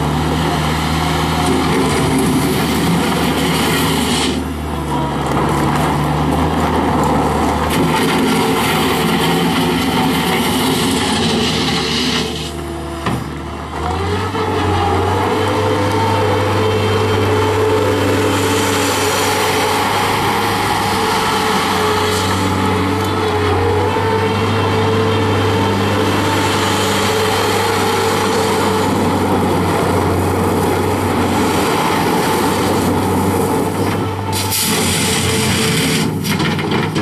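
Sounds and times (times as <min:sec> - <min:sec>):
diesel loader engine running: 0:00.0 - 0:37.0.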